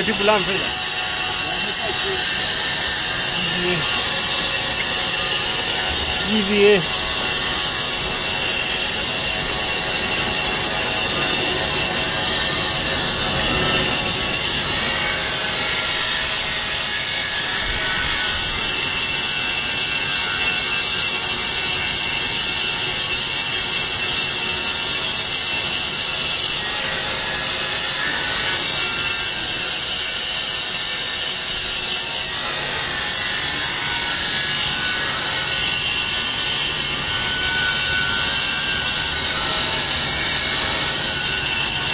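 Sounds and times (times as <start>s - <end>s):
foam cutting machine hissing: 0.0s - 41.9s.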